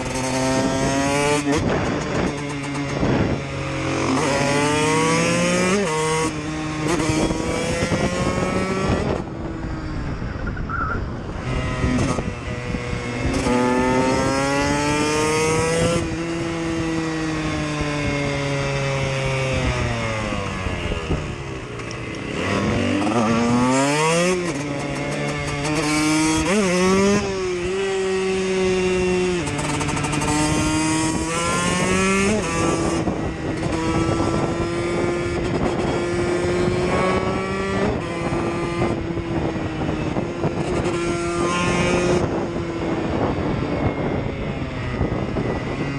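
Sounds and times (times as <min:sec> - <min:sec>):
motorcycle engine revving through gears: 0:00.0 - 0:45.9.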